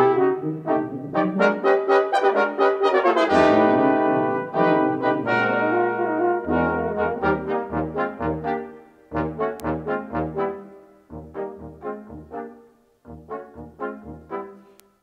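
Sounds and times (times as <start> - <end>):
brass background music: 0.0 - 14.8.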